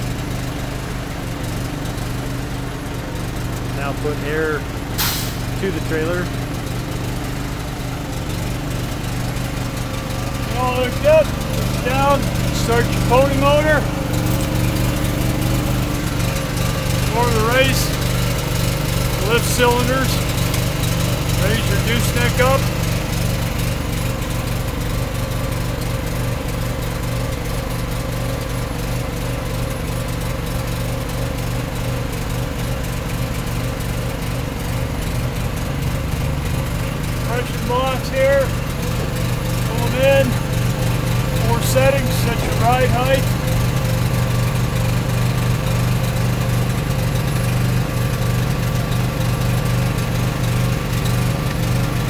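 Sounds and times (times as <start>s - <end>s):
small engine humming: 0.0s - 52.0s
small motor running steadily: 0.0s - 52.0s.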